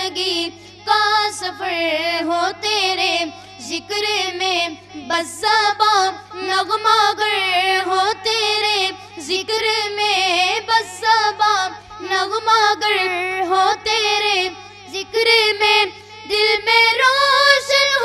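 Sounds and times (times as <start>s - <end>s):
boys singing devotional song: 0.0s - 18.0s.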